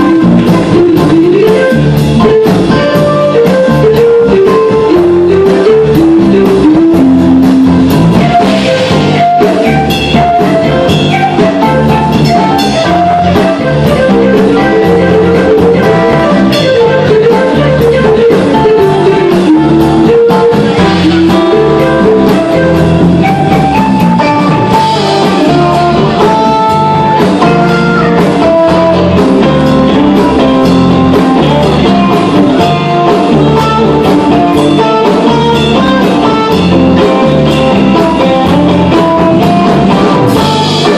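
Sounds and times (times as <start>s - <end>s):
bass guitar: 0.0s - 40.9s
drums: 0.0s - 40.9s
electric and acoustic guitars: 0.0s - 40.9s.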